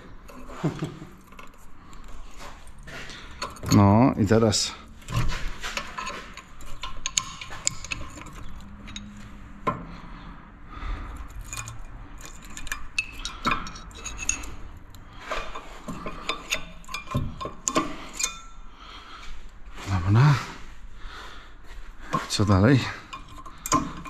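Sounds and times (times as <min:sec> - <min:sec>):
metal tools clinking and scraping: 0:00.0 - 0:10.2, 0:10.8 - 0:20.6, 0:22.0 - 0:24.0.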